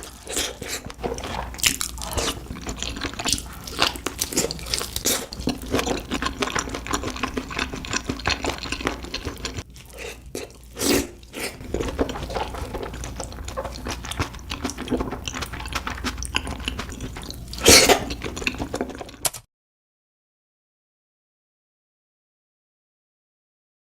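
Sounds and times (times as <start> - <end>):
wet chewing mouth clicks: 0.0 - 19.3.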